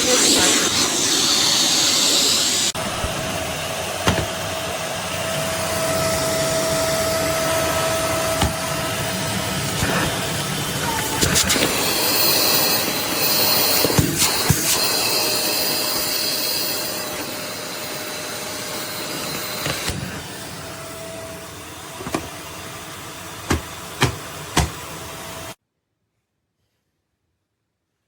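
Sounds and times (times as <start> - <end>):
vacuum cleaner running: 0.0 - 25.6.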